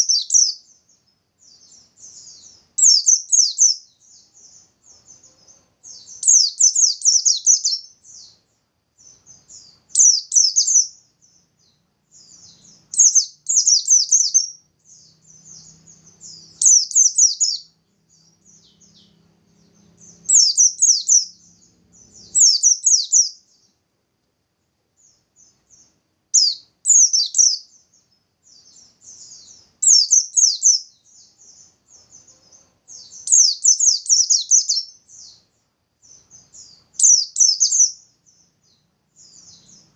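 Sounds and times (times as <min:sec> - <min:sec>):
bird singing rapid falling notes: 0:00.0 - 0:23.8, 0:25.0 - 0:39.9.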